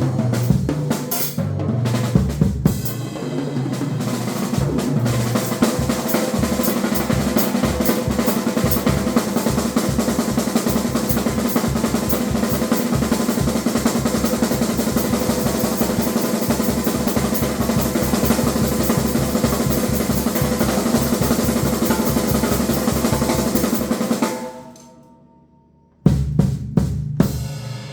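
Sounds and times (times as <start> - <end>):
drum kit solo: 0.0 - 24.8, 26.0 - 27.9.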